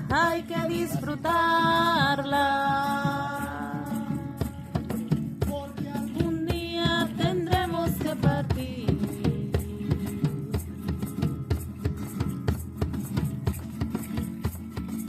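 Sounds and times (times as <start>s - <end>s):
person singing folk song: 0.0s - 13.8s
hand drum beat: 0.0s - 15.0s.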